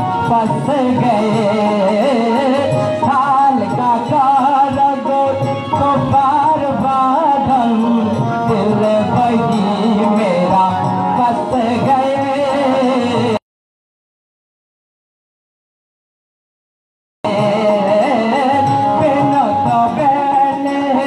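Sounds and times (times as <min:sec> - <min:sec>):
boy singing into a microphone: 0:00.0 - 0:13.4, 0:17.3 - 0:21.0
hand drums: 0:00.0 - 0:13.4, 0:17.3 - 0:21.0.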